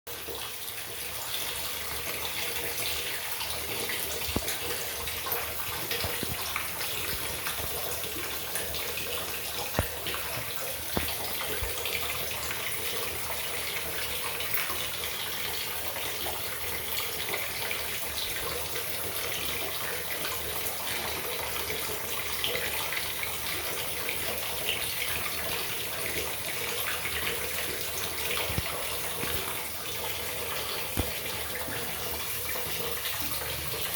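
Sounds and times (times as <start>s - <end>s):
water running from a tap: 0.1s - 33.9s.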